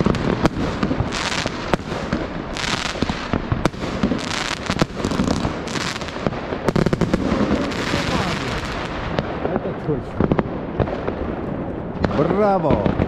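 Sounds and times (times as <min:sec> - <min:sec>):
firework bangs: 0:00.0 - 0:13.0
fireworks crackle and hiss: 0:00.0 - 0:13.0.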